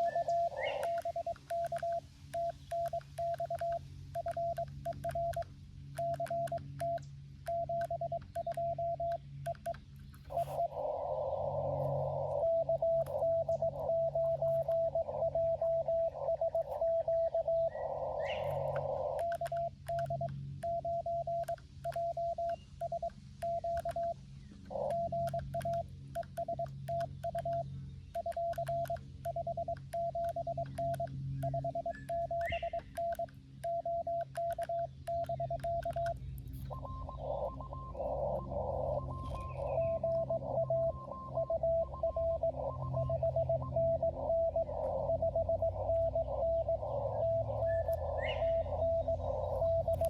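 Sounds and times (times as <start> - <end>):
morse code tone: 0.0 - 5.4, 6.0 - 9.8, 12.2 - 17.7, 18.6 - 27.6, 28.2 - 50.0.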